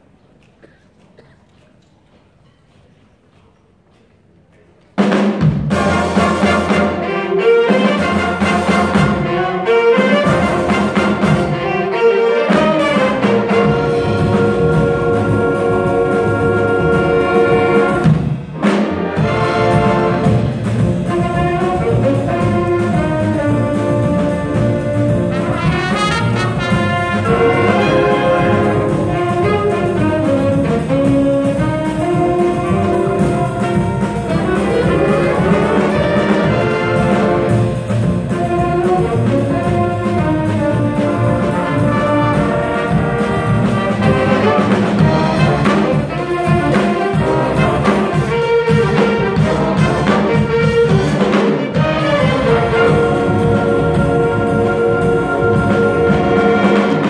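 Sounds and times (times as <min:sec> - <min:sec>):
jazz big band playing samba: 0:05.0 - 0:57.0.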